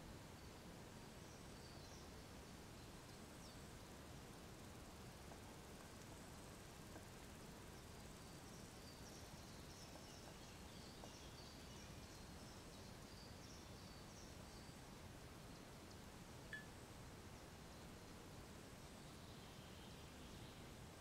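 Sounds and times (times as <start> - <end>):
faint outdoor hiss: 0.0 - 21.0.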